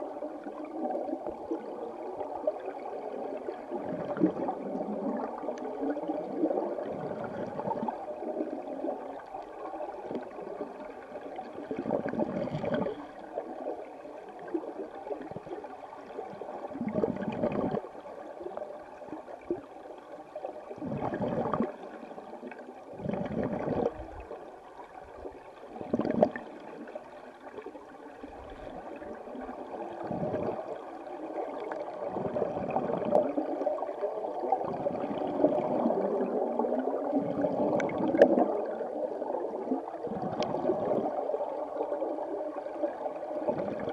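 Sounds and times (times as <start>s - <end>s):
underwater river current rushing: 0.0s - 43.9s.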